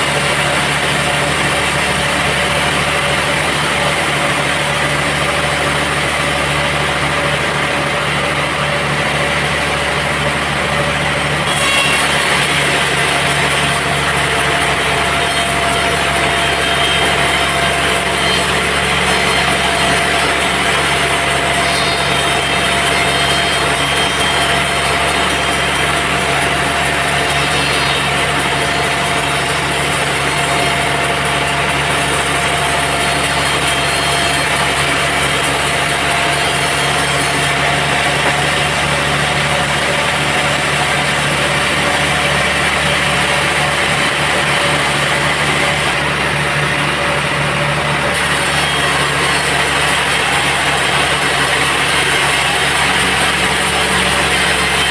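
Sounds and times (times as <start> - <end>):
band saw machinery droning: 0.0 - 54.9.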